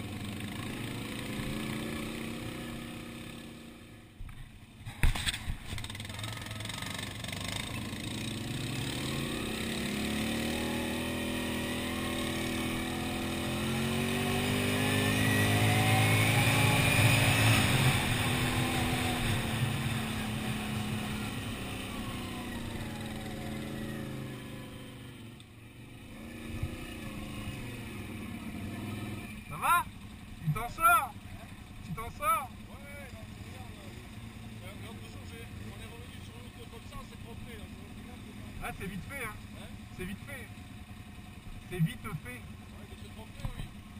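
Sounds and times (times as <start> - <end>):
quad bike engine running: 0.0 - 43.9.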